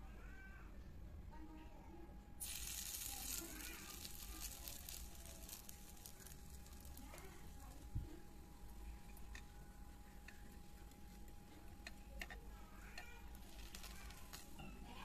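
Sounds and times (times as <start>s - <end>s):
batter sizzling in hot fat: 2.4s - 15.0s.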